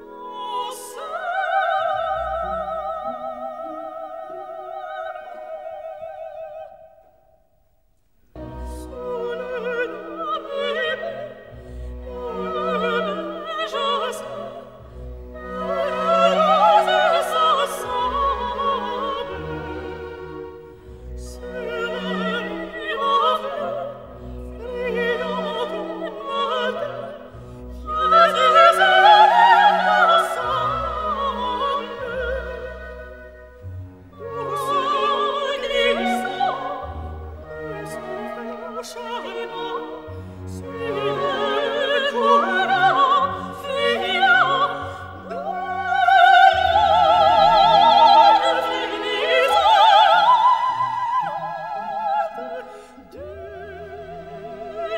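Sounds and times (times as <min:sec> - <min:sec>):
operatic singing with vibrato: 0:00.0 - 0:07.2, 0:08.4 - 0:54.9
orchestral accompaniment: 0:08.3 - 0:54.9.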